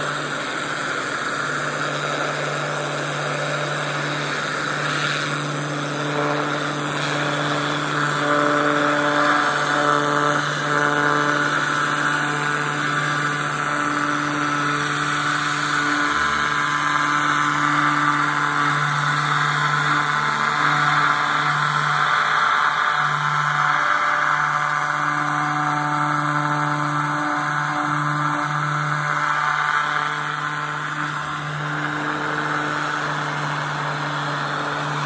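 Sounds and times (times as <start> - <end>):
pressure washer humming: 0.0 - 35.0.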